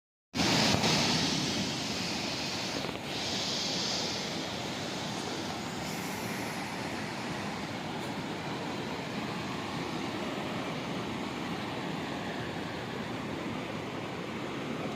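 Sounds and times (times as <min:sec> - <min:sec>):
floodwater rushing in river: 0:00.4 - 0:14.9.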